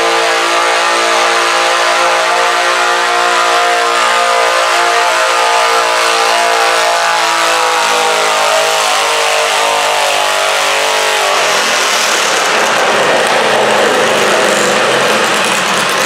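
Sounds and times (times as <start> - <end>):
tractor engine labouring: 0.0 - 16.0.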